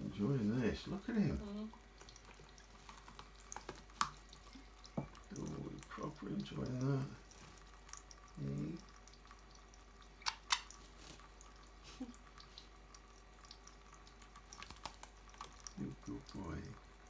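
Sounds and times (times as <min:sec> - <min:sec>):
water dripping: 0:00.0 - 0:17.0.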